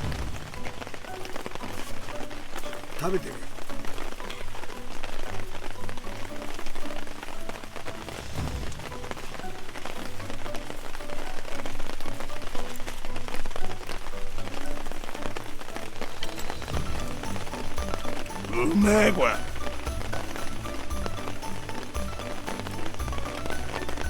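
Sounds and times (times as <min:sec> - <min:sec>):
background music with held notes: 0:00.0 - 0:24.0
campfire crackling and popping: 0:00.0 - 0:24.0.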